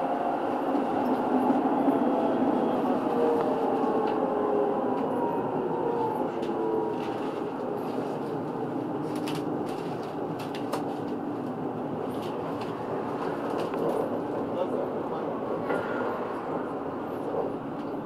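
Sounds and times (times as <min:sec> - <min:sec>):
tram wheels rumbling on rail: 0:00.0 - 0:18.0.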